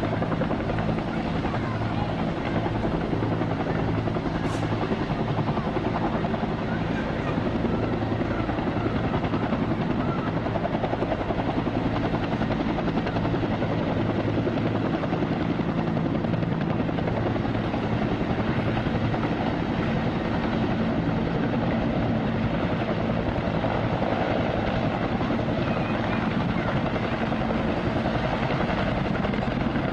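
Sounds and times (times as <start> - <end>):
helicopter rotor beating: 0.0 - 29.9.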